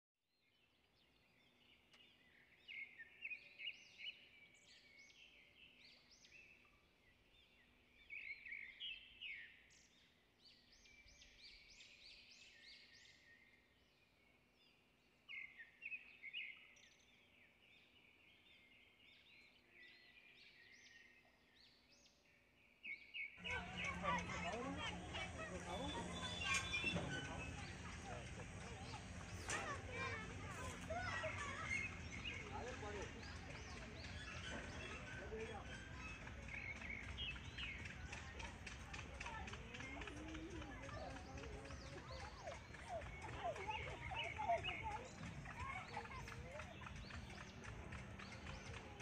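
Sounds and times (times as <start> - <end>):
faint bird chirping: 0.5 - 49.0.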